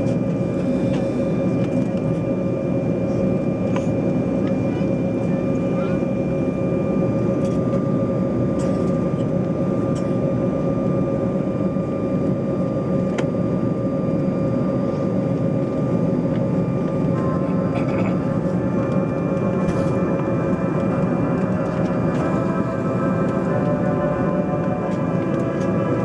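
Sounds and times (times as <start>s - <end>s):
jet airliner cabin rumble: 0.0s - 26.0s.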